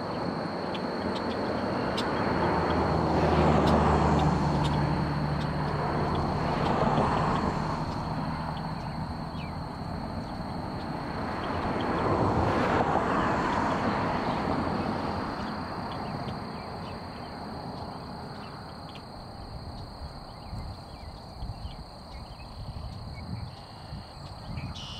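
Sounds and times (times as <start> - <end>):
distant jet engine roar: 0.0 - 24.7.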